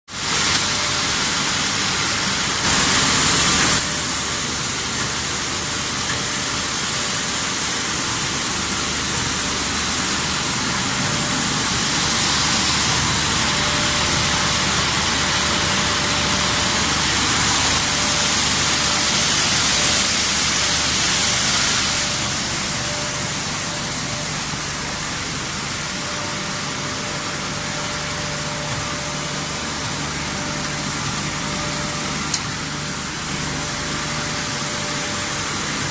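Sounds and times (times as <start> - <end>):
machinery hiss: 0.1 - 35.9.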